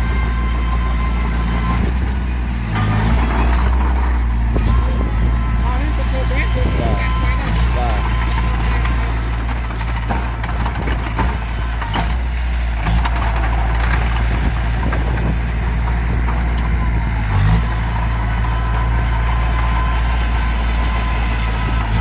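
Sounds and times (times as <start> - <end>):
heavy diesel machinery engine drone: 0.0 - 22.0.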